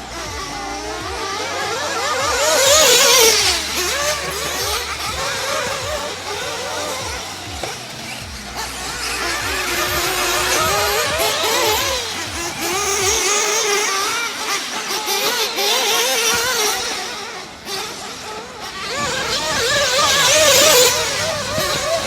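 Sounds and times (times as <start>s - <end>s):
radio-controlled car engines whining: 0.0s - 22.0s.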